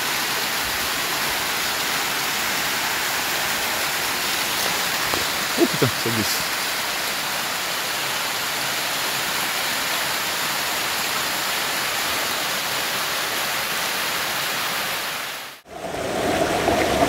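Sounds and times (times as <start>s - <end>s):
waterfall rushing: 0.6s - 17.0s.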